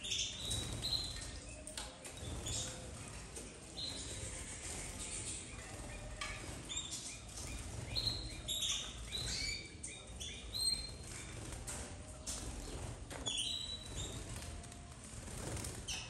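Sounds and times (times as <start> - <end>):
canaries chirping: 0.0 - 16.0
wing flutters: 2.1 - 16.0.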